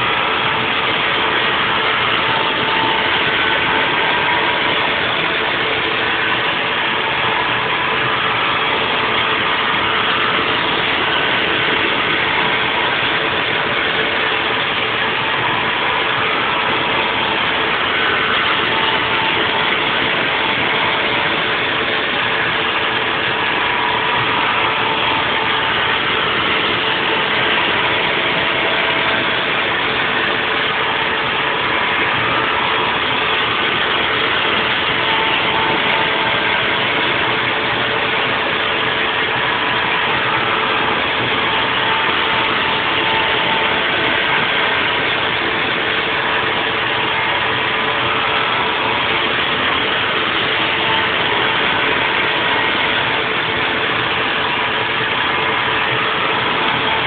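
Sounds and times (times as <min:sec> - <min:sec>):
milling machine humming: 0:00.0 - 0:57.0.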